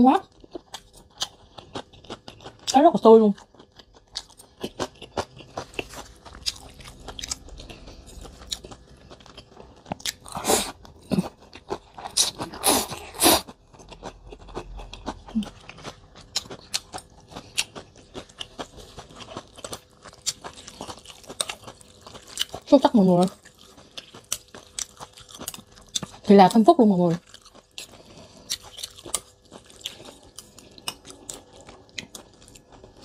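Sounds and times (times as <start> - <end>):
close-miked chewing: 0.2 - 33.0.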